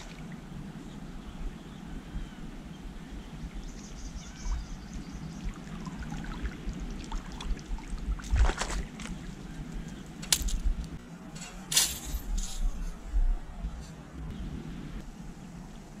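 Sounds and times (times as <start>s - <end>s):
wind rumble on microphone: 0.0s - 11.1s, 12.2s - 16.0s.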